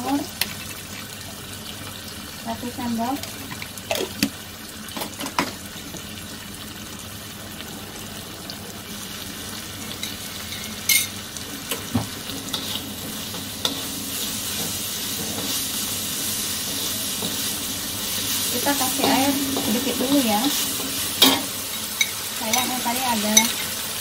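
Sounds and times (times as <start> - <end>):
chillies sizzling in a wok: 0.0 - 24.0.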